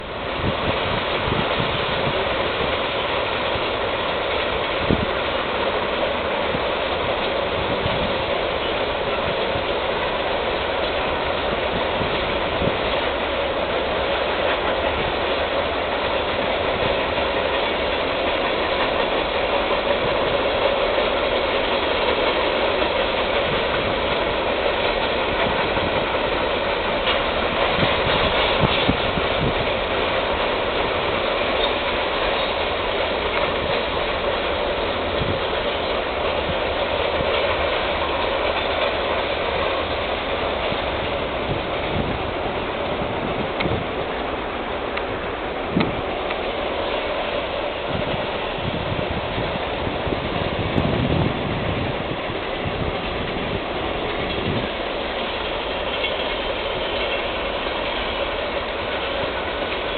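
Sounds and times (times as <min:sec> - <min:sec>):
loud rail clacks: 0:00.0 - 0:59.9
train rumbling on rails: 0:00.0 - 0:59.9.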